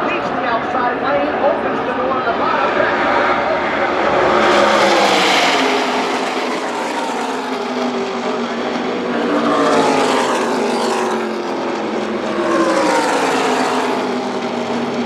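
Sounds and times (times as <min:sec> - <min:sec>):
racing trucks passing: 0:00.0 - 0:15.0.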